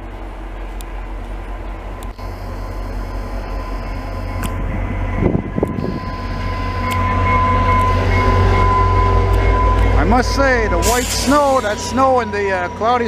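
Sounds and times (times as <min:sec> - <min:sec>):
diesel locomotive rumbling past: 0:00.0 - 0:13.0
steady high whine: 0:00.0 - 0:13.0.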